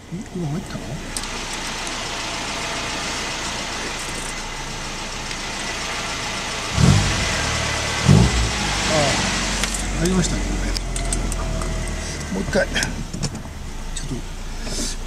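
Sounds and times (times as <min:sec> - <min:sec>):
car engine idling: 0:00.0 - 0:15.0
low drone of turning wheels: 0:00.0 - 0:15.0.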